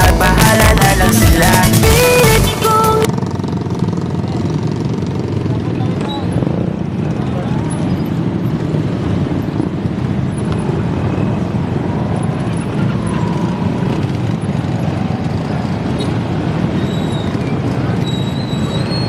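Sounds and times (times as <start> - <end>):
motorcycles and scooters riding past: 0.0 - 19.0.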